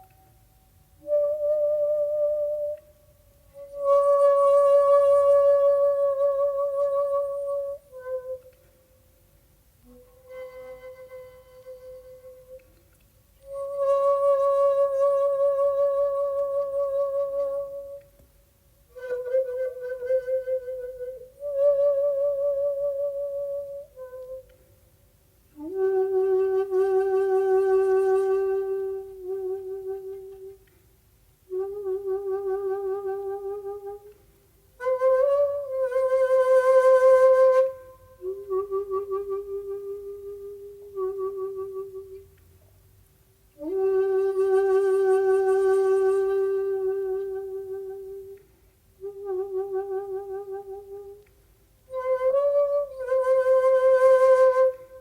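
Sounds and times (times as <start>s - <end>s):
bamboo flute playing: 0.0s - 30.8s, 31.4s - 42.4s, 43.5s - 55.0s.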